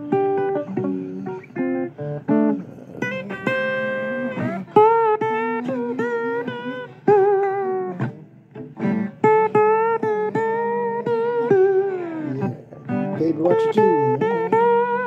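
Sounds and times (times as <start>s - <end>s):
blues guitar lead: 0.0s - 15.0s.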